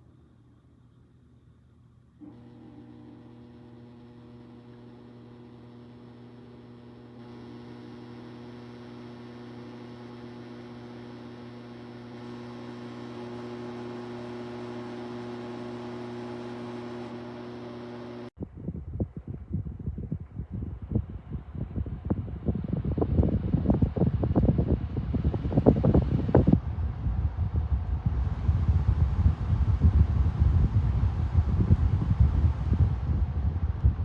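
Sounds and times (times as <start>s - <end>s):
fan motor hum and airflow: 0.0s - 34.0s.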